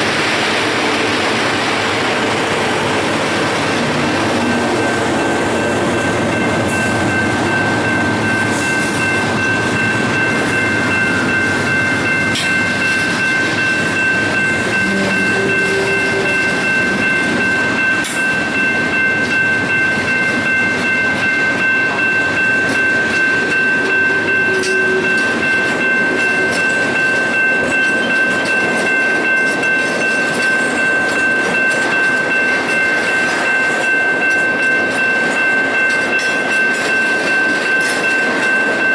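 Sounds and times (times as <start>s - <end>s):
freight train rumbling and clattering: 0.0s - 38.9s.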